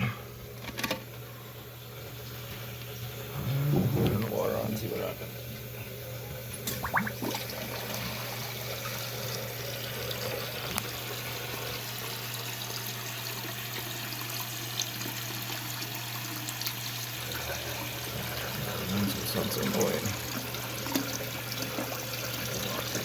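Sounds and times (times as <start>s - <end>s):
toilet tank refilling hiss: 1.5s - 23.0s.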